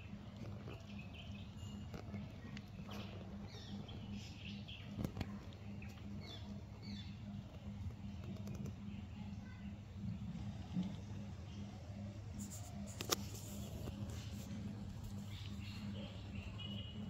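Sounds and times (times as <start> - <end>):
low steady hum: 0.0 - 17.0
small birds chirping: 0.0 - 17.0.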